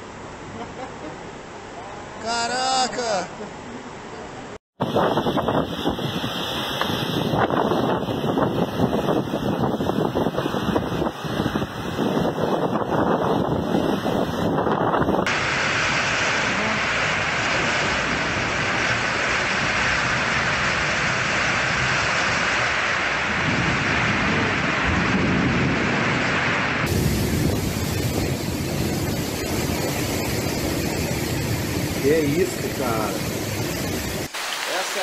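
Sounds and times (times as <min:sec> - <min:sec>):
gusting storm wind: 0:04.8 - 0:34.4
heavy rain downpour: 0:04.8 - 0:35.0.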